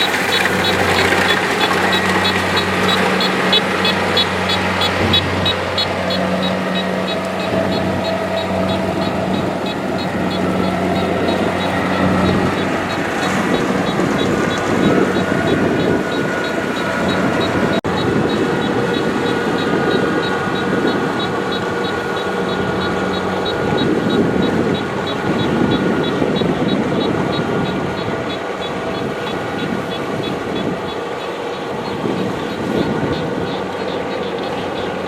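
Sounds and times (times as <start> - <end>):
combine harvester running: 0.0 - 35.0
fast high ticking: 0.0 - 35.0.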